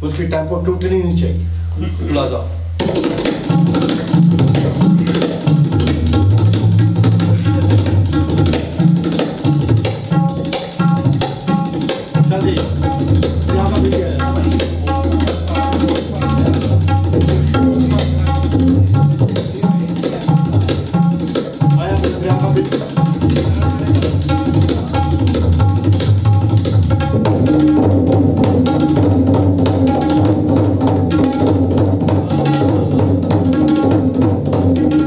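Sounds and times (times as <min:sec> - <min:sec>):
rapid hand drum strokes: 0:02.5 - 0:35.0.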